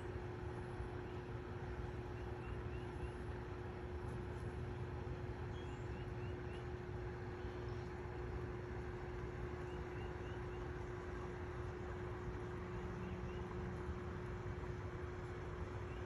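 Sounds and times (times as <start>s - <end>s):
low hum: 0.0s - 16.0s
outdoor background rumble: 0.0s - 16.0s.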